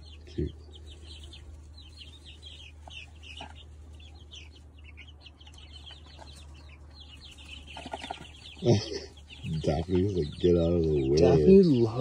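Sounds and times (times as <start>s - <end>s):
chicks peeping: 0.0s - 12.0s
steady low hum: 0.0s - 12.0s.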